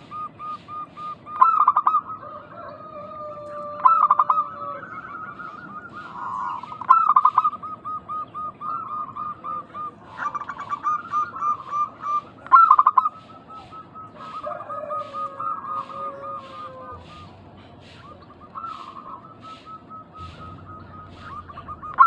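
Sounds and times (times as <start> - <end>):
doves cooing: 0.0 - 22.0.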